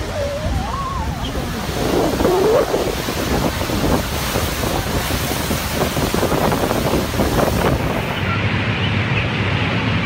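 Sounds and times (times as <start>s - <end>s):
churning water: 0.0s - 10.0s
waterfall roaring: 0.0s - 10.0s
wind buffeting microphone: 0.0s - 10.0s.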